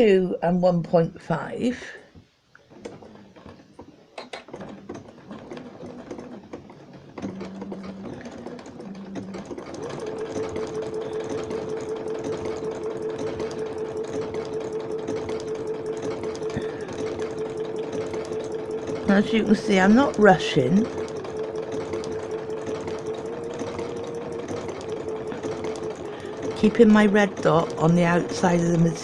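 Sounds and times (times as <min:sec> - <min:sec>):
sewing machine clicks: 0:02.6 - 0:29.0
sewing machine stitching: 0:02.6 - 0:29.0.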